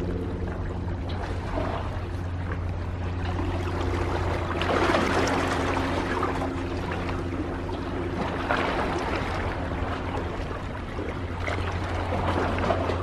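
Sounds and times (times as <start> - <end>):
low mechanical hum: 0.0 - 13.0
seawater lapping around concrete: 0.0 - 13.0.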